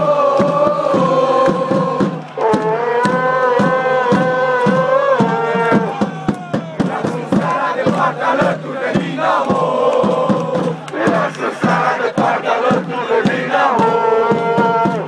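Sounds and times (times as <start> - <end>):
crowd singing a chant: 0.0 - 15.0
steady drum beat: 0.0 - 15.0.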